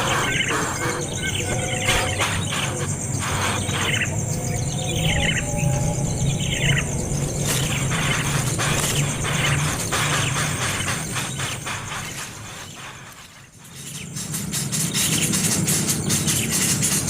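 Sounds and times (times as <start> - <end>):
baby bird chirping: 0.0 - 14.1
steady low hum: 0.0 - 17.0.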